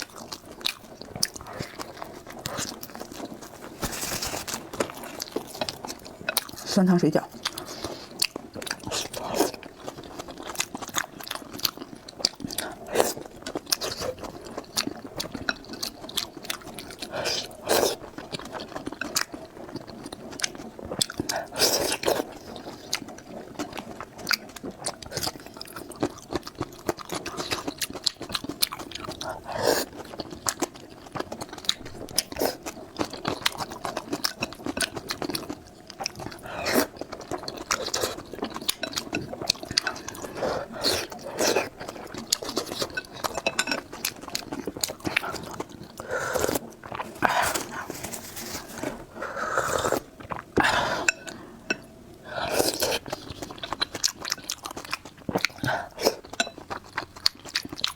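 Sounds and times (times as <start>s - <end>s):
person chewing food: 0.0s - 6.7s, 7.3s - 57.9s.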